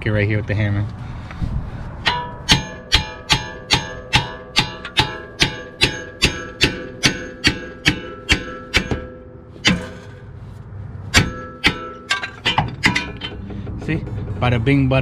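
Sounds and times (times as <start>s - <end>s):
hammer striking metal: 2.0s - 10.3s, 11.1s - 15.0s.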